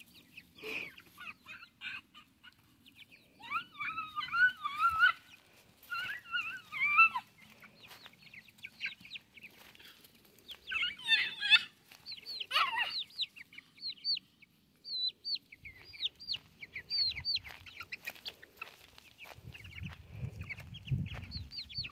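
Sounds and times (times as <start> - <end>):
chicks peeping: 0.0 - 21.9.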